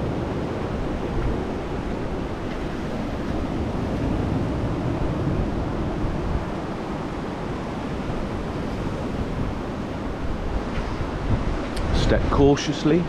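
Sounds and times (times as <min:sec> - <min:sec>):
sea surf: 0:00.0 - 0:13.0
wind rumbling on microphone: 0:00.0 - 0:13.0
wind rushing: 0:00.0 - 0:13.0.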